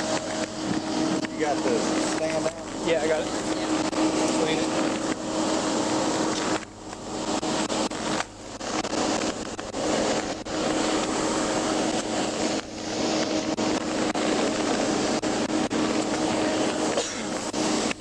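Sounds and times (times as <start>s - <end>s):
loud vehicle noise: 0.0s - 18.0s
low hum: 0.0s - 18.0s.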